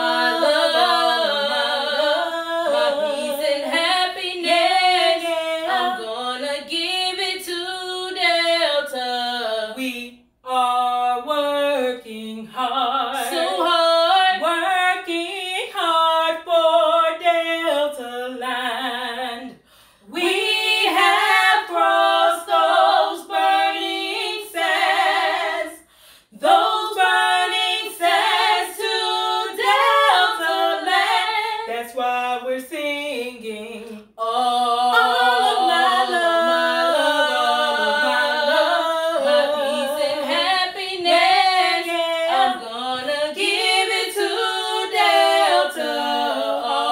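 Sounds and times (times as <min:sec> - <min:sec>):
women singing a cappella: 0:00.0 - 0:46.9.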